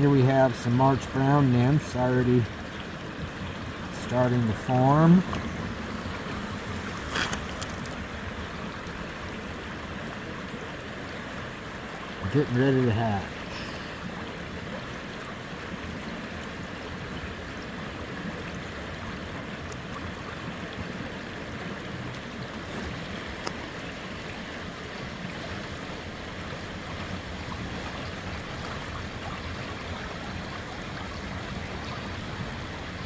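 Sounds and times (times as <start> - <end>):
river water flowing over rocks: 0.0 - 33.0.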